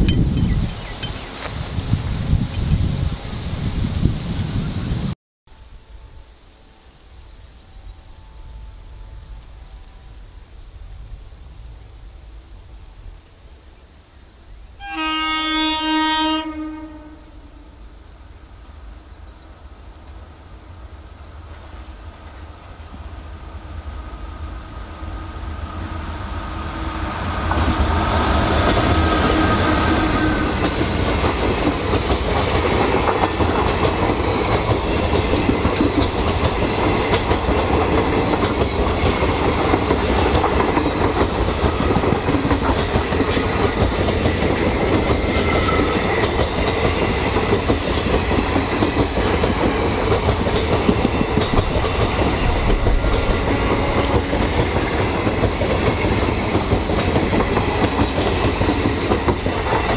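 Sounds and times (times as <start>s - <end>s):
passenger train rumbling past: 0.0s - 59.9s.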